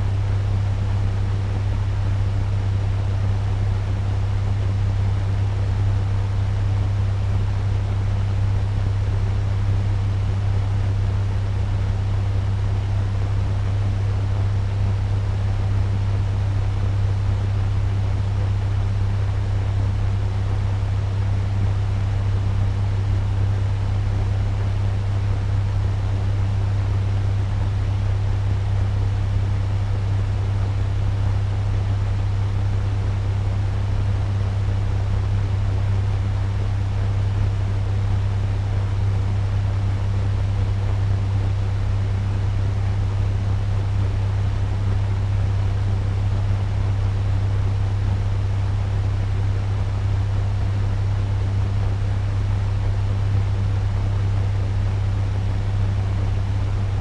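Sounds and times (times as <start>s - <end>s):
fan rushing air with deep hum: 0.0s - 57.0s.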